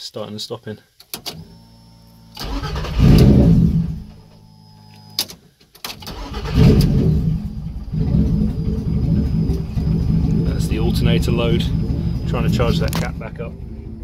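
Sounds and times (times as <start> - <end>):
car engine starting and idling: 1.3 - 5.1, 5.9 - 14.0.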